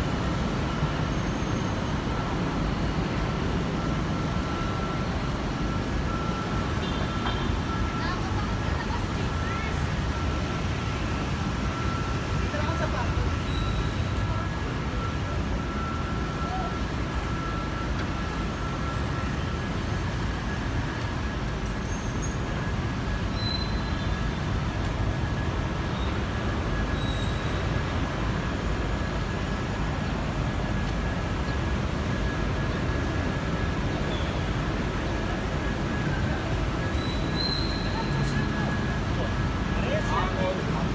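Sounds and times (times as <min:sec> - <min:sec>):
city traffic rumble: 0:00.0 - 0:40.9.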